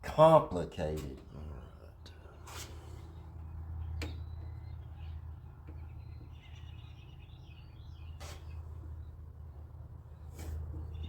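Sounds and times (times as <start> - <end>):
small birds chirping: 1.3 - 11.0.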